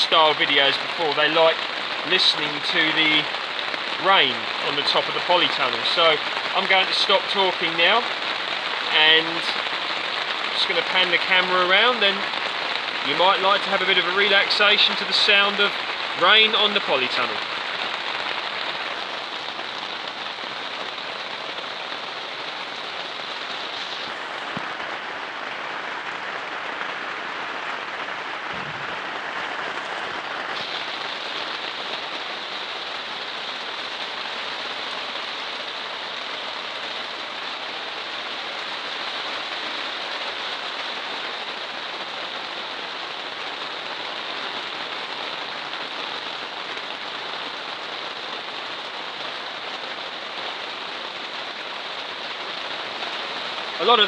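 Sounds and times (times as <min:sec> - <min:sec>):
heavy rain on plastic sheeting: 0:00.0 - 0:54.0.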